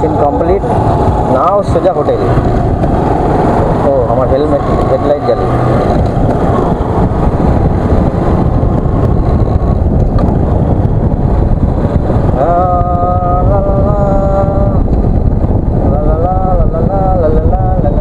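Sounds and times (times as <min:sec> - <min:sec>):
motorcycle engine running: 0:00.0 - 0:18.0
wind rushing over microphone: 0:00.0 - 0:18.0.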